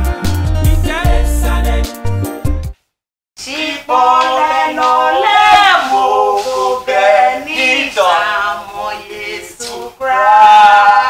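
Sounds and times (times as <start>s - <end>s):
person singing unaccompanied: 0.0s - 2.0s, 3.4s - 11.0s.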